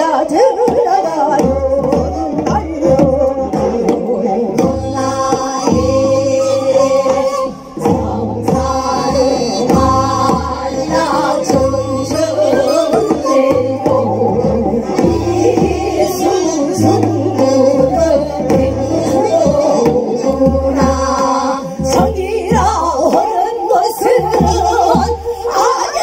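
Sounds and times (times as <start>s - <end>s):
women singing with vibrato: 0.0s - 26.0s
barrel drum strokes: 1.4s - 23.4s.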